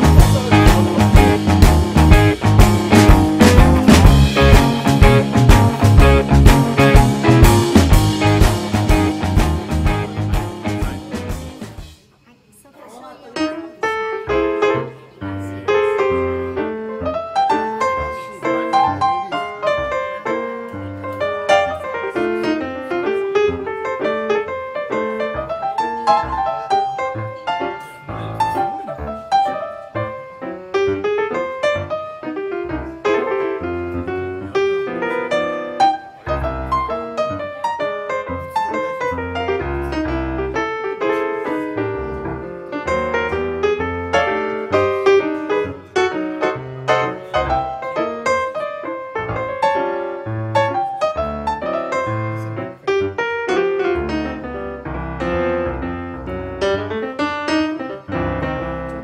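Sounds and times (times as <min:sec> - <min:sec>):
piano music: 0:00.0 - 0:12.0, 0:13.0 - 0:59.0.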